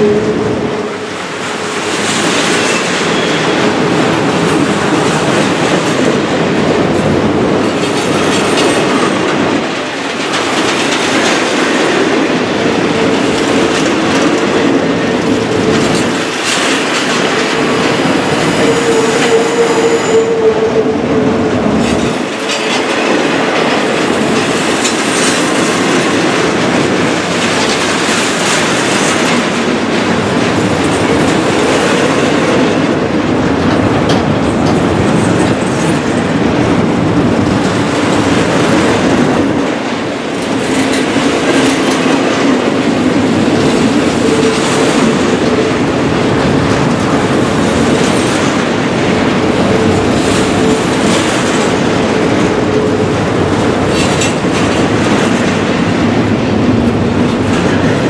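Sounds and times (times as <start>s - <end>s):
train wheels clattering: 0.0s - 58.0s.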